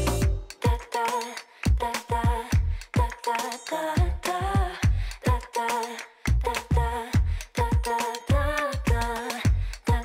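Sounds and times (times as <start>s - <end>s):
person singing over bass beat: 0.0s - 10.0s.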